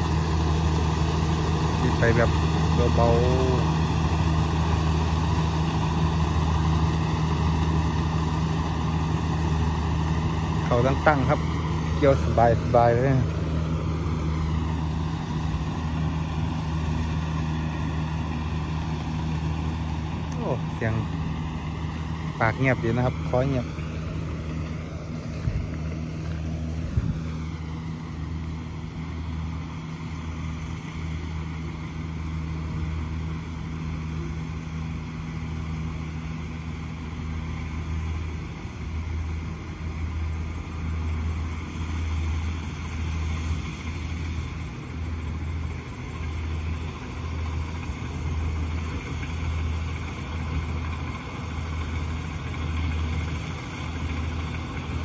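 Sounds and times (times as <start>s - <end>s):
combine harvester engine humming: 0.0s - 55.0s.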